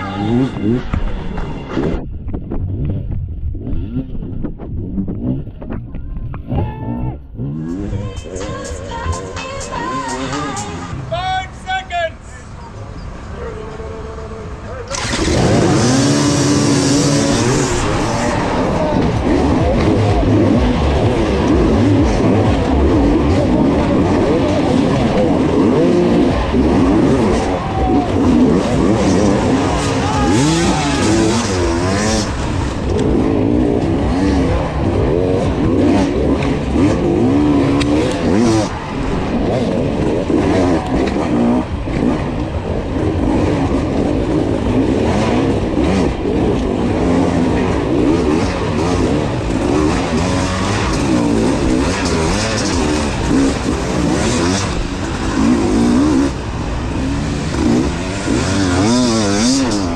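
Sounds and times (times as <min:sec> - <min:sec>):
dirt bike engine revving: 0:00.0 - 0:11.1, 0:14.4 - 0:59.9.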